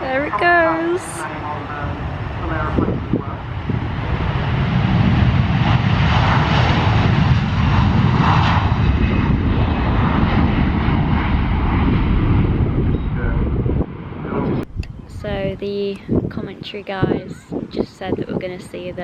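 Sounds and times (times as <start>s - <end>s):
jet engines at take-off power: 0.0s - 19.0s.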